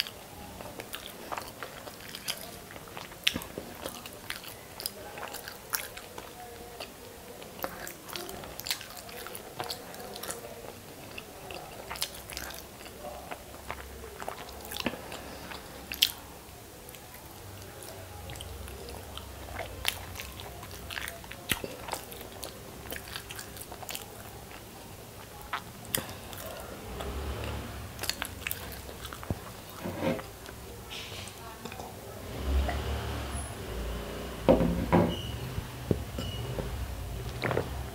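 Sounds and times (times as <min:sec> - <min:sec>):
person chewing food: 0:00.0 - 0:30.8, 0:35.9 - 0:37.9.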